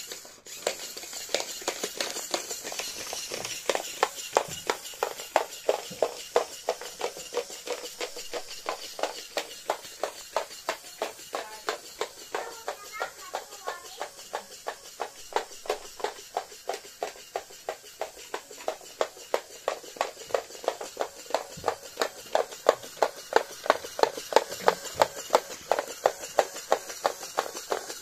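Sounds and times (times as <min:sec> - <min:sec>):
toy walker clicking on wooden floor: 0:00.0 - 0:28.0.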